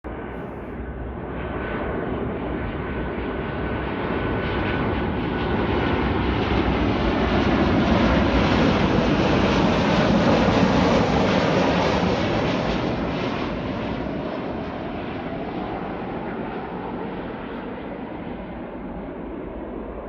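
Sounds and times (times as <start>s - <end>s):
jet engines rumbling: 0.1s - 20.0s.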